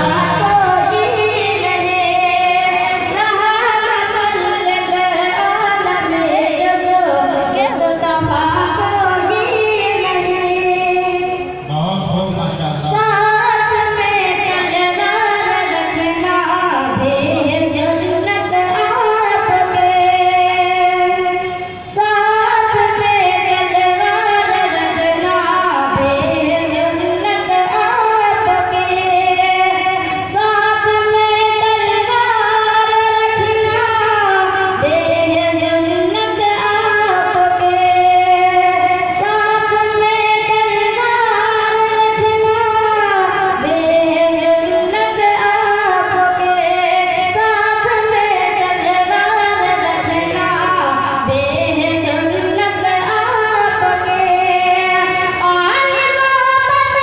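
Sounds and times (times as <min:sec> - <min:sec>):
boy singing into a microphone: 0:00.0 - 0:57.0.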